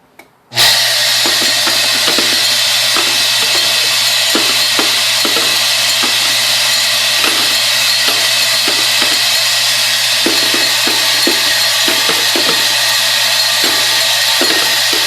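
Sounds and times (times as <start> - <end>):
vibratory drive hum: 0.6 - 15.0
brass cases jingling and rattling: 1.2 - 15.0
sharp metal clinks: 1.2 - 15.0.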